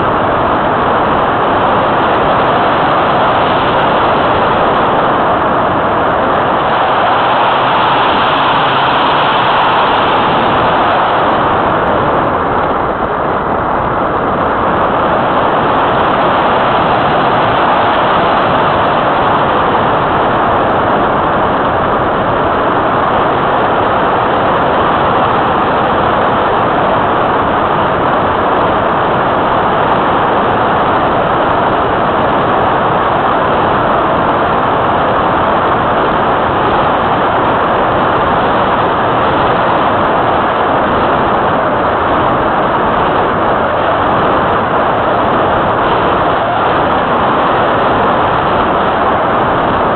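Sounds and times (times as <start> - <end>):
airflow rushing: 0.0 - 49.9.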